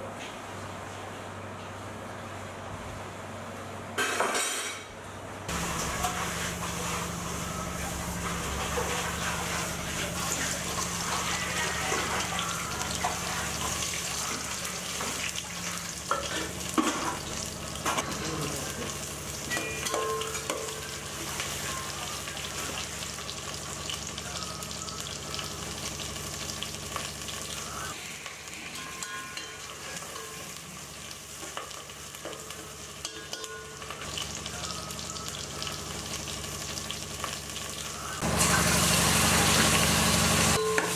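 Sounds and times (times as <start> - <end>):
onions sizzling in oil: 5.5 - 40.9.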